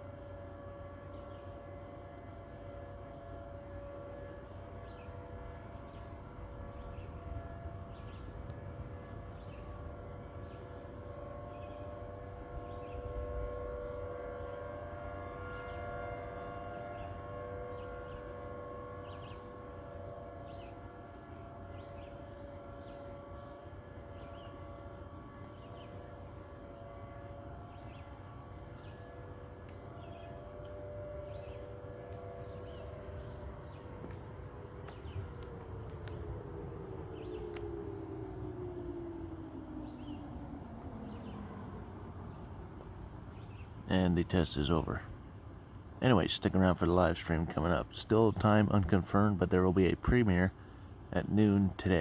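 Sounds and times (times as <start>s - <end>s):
crickets chirping: 0.0s - 52.0s
warning sirens wailing: 0.0s - 52.0s.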